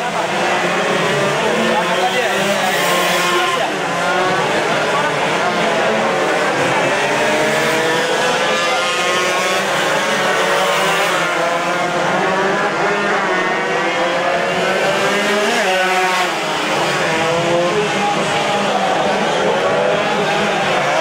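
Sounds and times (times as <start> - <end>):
motorcycles revving at full throttle: 0.0 - 21.0.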